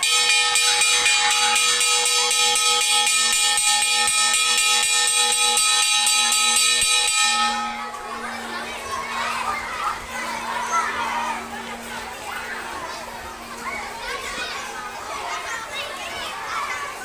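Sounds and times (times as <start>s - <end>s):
metal alarm bell ringing: 0.0s - 14.2s.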